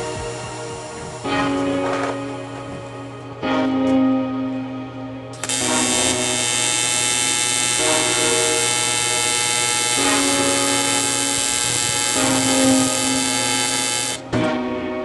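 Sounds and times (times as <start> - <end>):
mechanical buzz with high whine: 0.0 - 3.3, 5.3 - 14.4
background music: 0.0 - 15.0.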